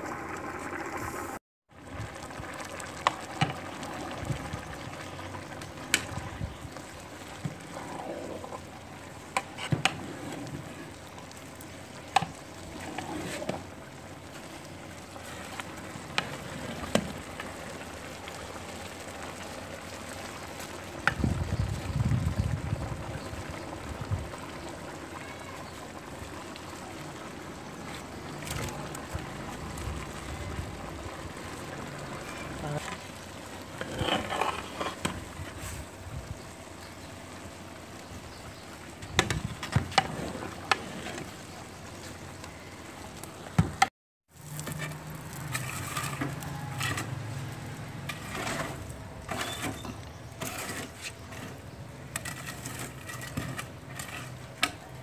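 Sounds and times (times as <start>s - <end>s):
liquid bubbling in pot: 0.0s - 55.0s.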